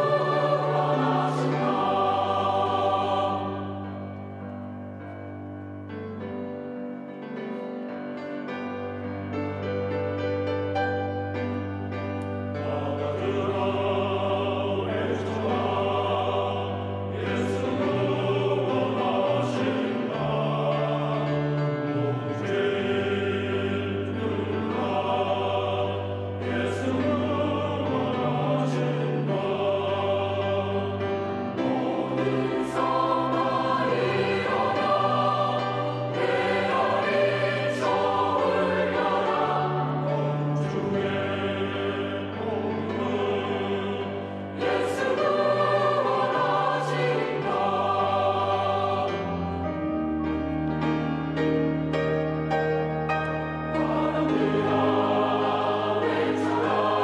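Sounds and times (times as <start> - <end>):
choir singing: 0.0 - 6.4, 7.1 - 57.0.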